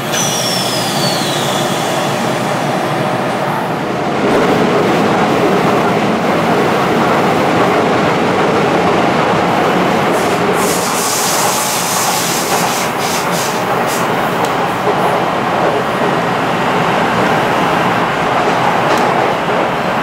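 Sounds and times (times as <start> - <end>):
rail clicks: 0.0 - 20.0
train wheels rumbling: 0.0 - 20.0.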